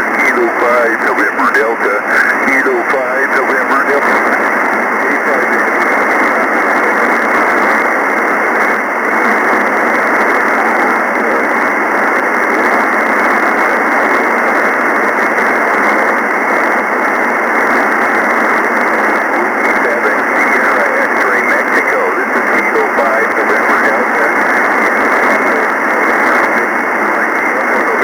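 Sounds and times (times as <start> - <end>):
radio receiver static hiss: 0.0 - 28.0.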